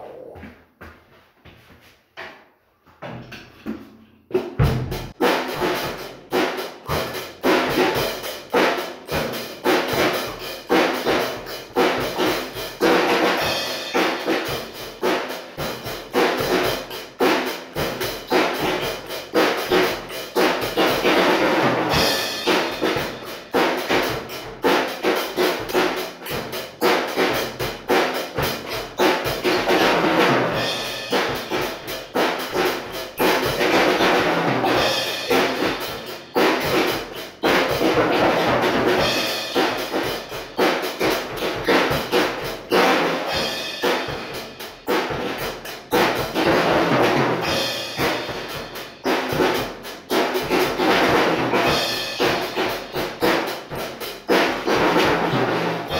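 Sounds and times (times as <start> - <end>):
acoustic drum kit playing: 3.0 - 55.9.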